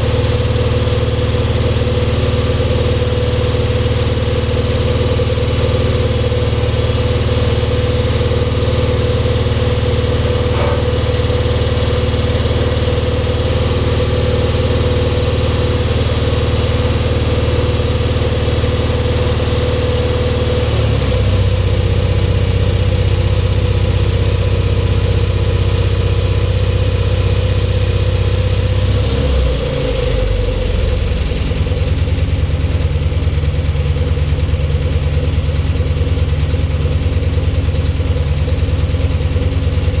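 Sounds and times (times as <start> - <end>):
crane engine running: 0.0 - 40.0.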